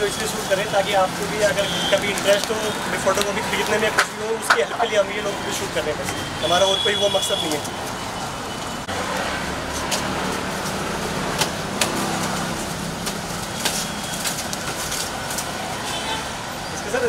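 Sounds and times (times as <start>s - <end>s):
vehicle engine humming: 0.0s - 6.8s, 7.6s - 17.0s
street traffic: 0.0s - 17.0s.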